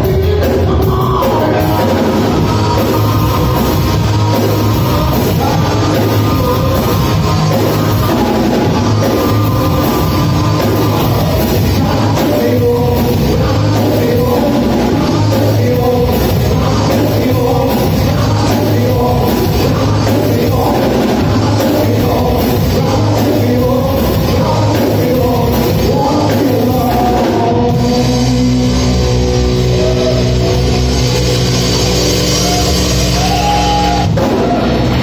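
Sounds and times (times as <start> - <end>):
bass guitar: 0.0 - 35.0
distorted electric guitar: 0.0 - 35.0
drum kit: 0.0 - 35.0.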